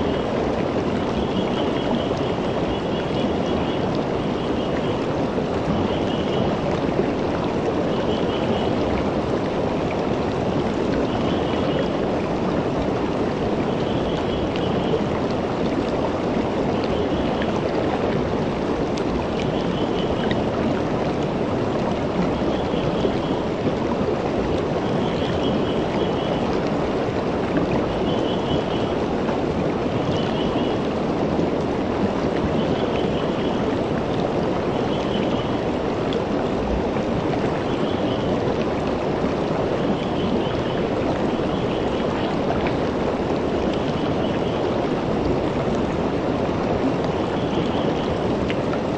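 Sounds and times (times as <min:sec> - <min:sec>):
creek water flowing over rocks: 0:00.0 - 0:48.9.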